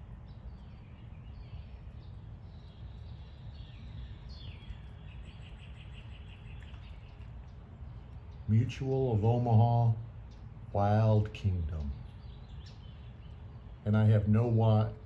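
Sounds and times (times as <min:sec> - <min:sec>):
birds calling: 0:00.0 - 0:15.0
steady low rumble: 0:00.0 - 0:15.0.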